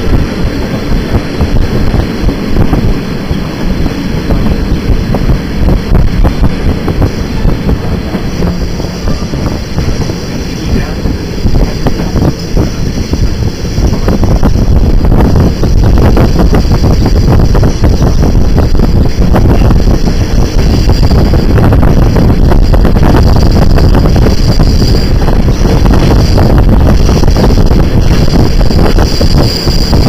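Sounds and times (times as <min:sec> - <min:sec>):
train wheels clattering on rails: 0:00.0 - 0:30.0
wind buffeting microphone: 0:00.0 - 0:30.0.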